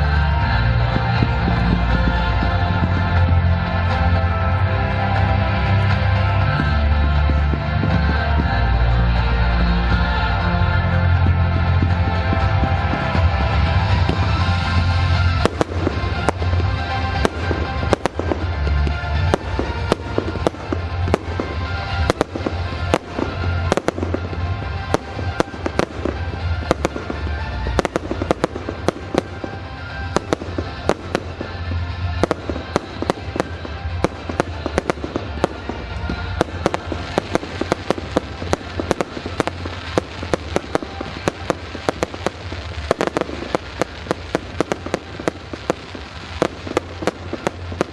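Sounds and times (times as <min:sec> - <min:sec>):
fireworks bangs: 0:00.0 - 0:47.9
music playing: 0:00.0 - 0:47.9.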